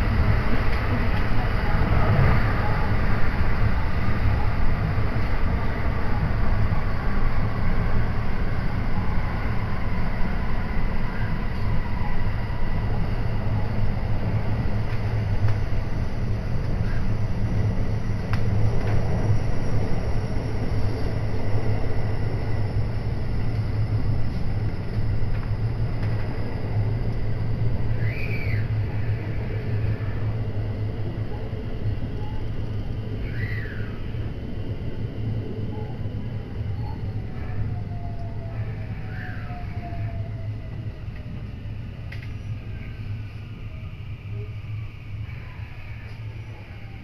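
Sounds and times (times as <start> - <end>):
train rumble from inside carriage: 0.0 - 47.0.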